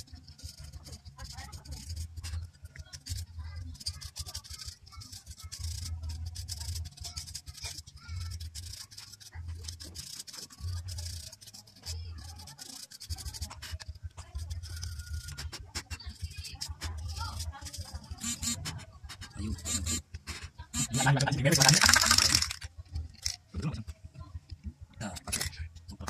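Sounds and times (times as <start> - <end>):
brush scrubbing plastic fan: 0.0 - 22.6.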